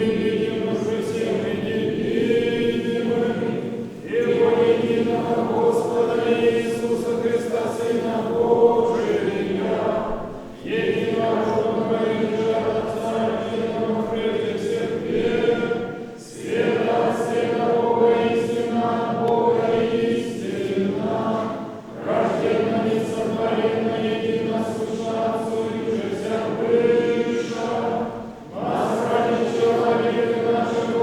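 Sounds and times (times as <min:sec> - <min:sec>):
choir singing unaccompanied chant: 0:00.0 - 0:31.0.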